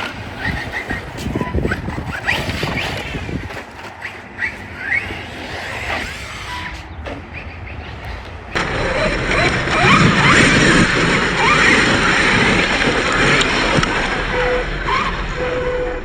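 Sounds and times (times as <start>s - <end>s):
electric motor whining: 0.0s - 16.0s
tyre and ground rumble: 0.0s - 16.0s.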